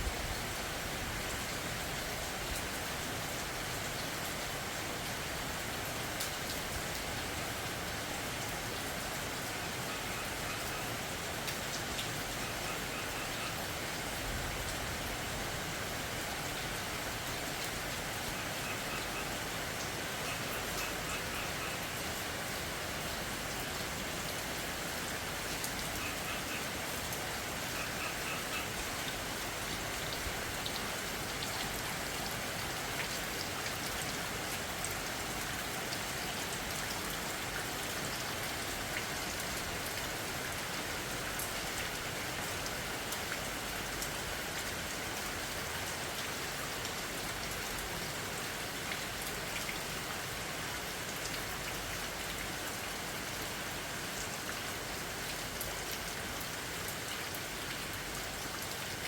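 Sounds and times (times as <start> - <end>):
raindrops pattering on surfaces: 0.0 - 59.0
steady rainfall: 0.0 - 59.0.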